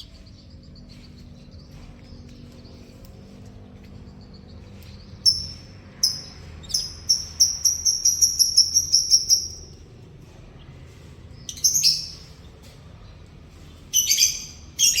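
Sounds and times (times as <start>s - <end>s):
canary singing: 0.0s - 9.8s, 11.4s - 12.6s, 13.8s - 15.0s.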